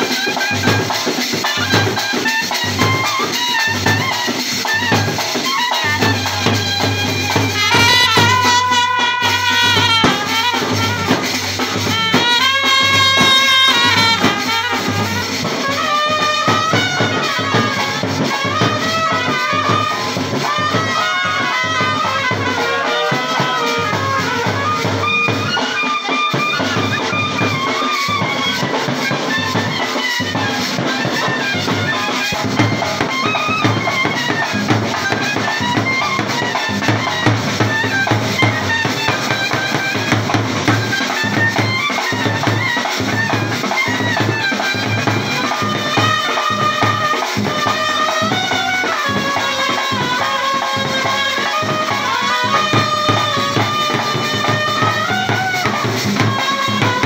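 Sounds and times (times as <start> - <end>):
brass band playing: 0.0 - 57.0
steady drum beat: 0.0 - 57.0.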